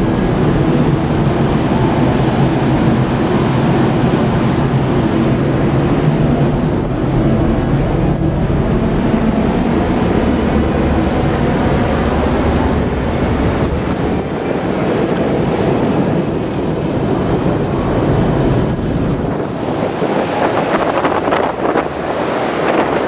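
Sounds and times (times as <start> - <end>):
sea noise: 0.0 - 23.0
ship engine drone: 0.0 - 23.0
wind: 0.0 - 23.0.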